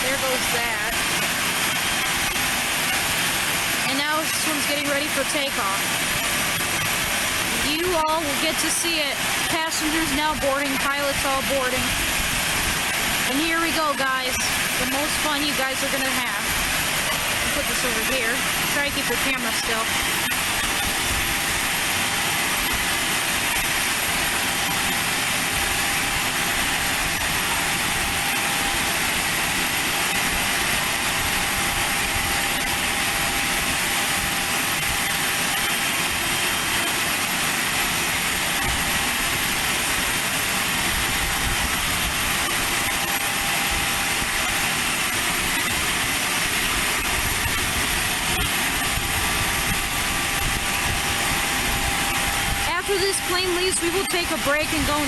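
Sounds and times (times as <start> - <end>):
aircraft engine running: 0.0 - 55.0
faint steady whine: 0.0 - 55.0.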